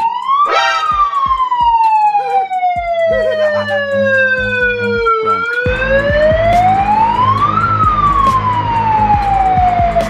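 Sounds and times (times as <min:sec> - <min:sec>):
electronic siren wailing: 0:00.0 - 0:10.0.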